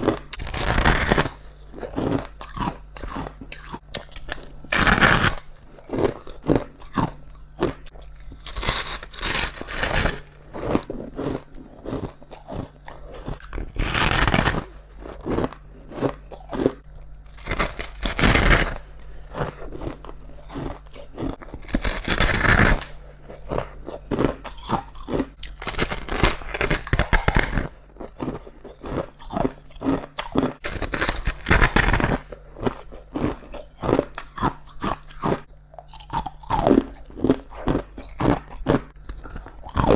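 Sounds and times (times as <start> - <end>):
crackly chewing: 0.0 - 39.9
ice crunching in mouth: 0.0 - 39.9.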